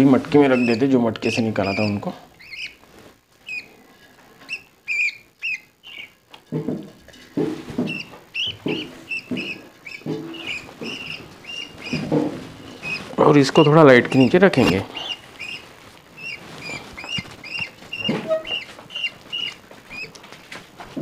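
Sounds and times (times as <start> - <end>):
bird chicks cheeping: 0.3 - 2.8, 3.4 - 6.4, 7.2 - 21.0.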